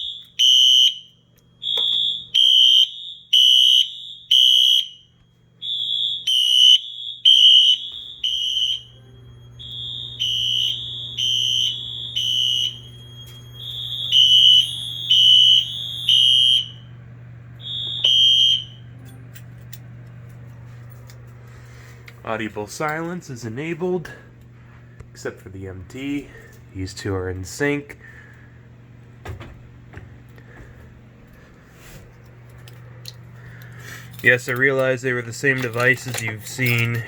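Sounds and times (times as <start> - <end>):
fire alarm horns beeping: 0.0 - 28.6, 32.8 - 37.0
low steady hum: 0.0 - 37.0.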